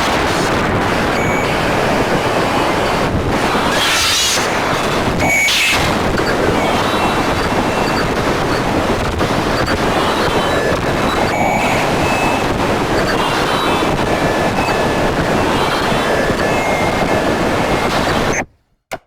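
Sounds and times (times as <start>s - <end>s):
distorted noise music: 0.0s - 18.4s.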